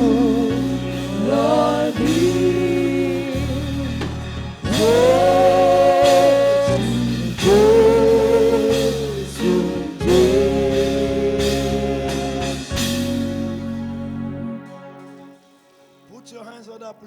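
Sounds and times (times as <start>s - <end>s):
person singing: 0.0s - 14.8s
keyboard and bass accompaniment: 0.0s - 16.4s.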